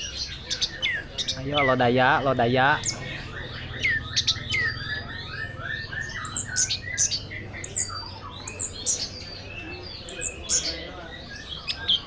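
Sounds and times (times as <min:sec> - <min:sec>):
thrush singing whistled notes: 0:00.0 - 0:12.0.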